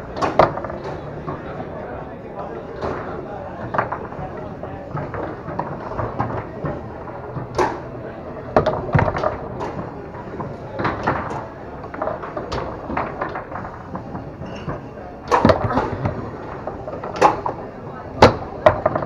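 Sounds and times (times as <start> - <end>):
foosball clacks and knocks: 0.1 - 1.7, 2.7 - 19.0.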